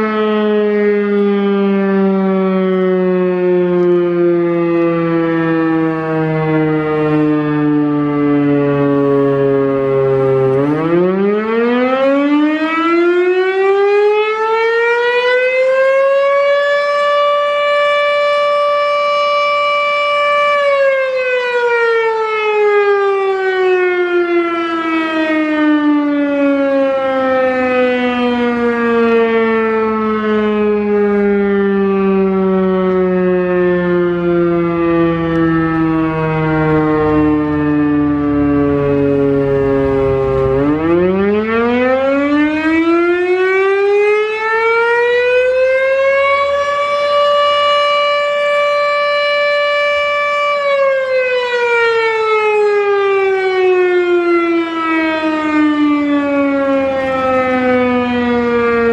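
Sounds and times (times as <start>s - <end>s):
fire siren winding: 0.0s - 58.9s.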